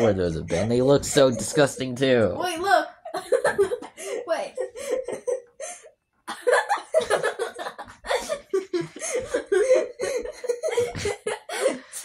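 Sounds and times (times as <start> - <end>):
young boy laughing: 0.5 - 2.0, 2.7 - 12.0.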